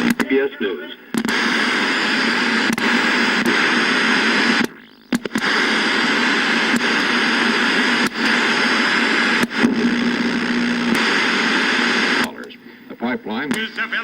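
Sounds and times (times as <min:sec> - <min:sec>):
television static hiss: 0:00.0 - 0:14.0.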